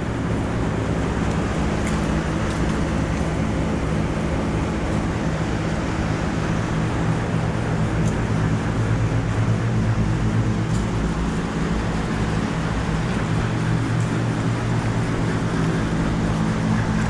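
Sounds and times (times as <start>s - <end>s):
low compressor hum: 0.0s - 17.0s
rush of condenser fans: 0.0s - 17.0s.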